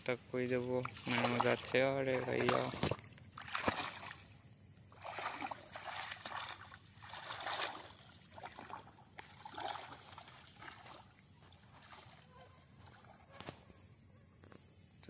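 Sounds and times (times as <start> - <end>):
water sloshing and splashing: 0.5 - 13.4.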